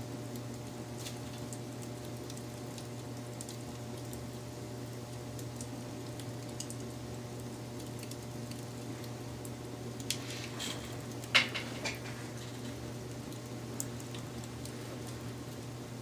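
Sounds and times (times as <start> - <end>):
low steady hum: 0.0 - 16.0
wood fire crackling: 0.0 - 16.0.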